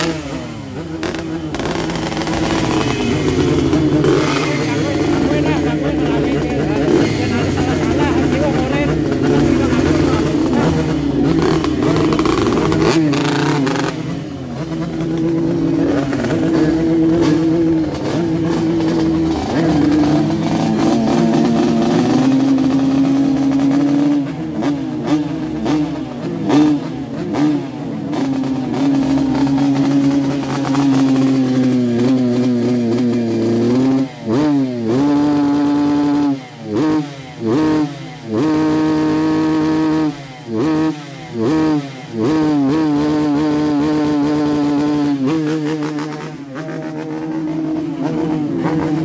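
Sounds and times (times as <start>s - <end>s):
two-stroke motorcycle engine revving: 0.0s - 49.0s.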